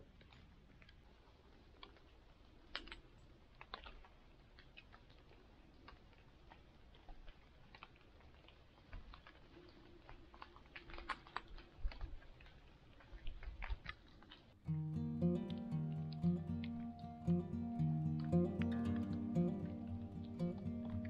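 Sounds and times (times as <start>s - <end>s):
faint crackles and ticks: 0.0s - 21.0s.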